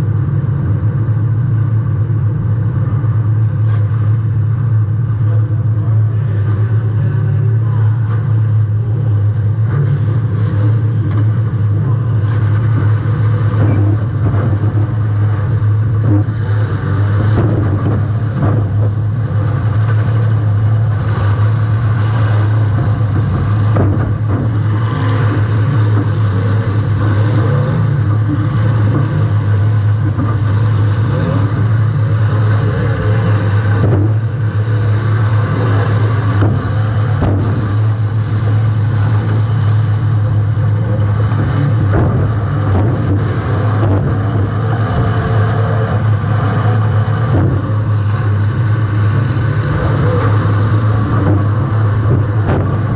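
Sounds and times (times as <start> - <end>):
car engine droning: 0.0 - 52.9.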